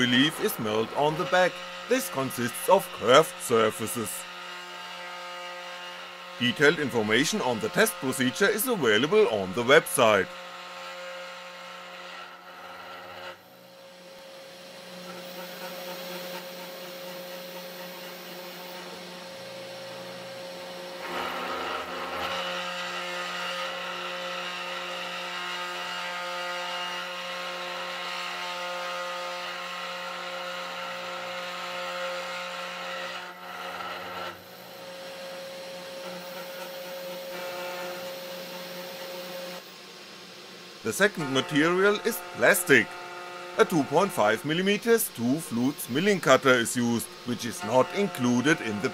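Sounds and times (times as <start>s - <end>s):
router bit cutting wood: 0.0s - 48.9s
router spindle motor humming: 0.0s - 48.9s.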